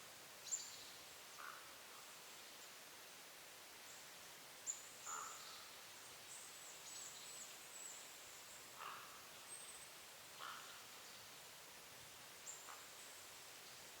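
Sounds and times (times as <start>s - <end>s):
faint forest ambience: 0.0s - 14.0s.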